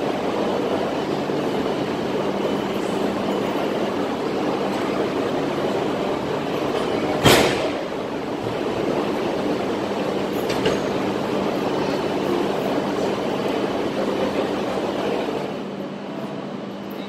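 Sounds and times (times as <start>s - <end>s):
train humming: 0.0s - 17.0s.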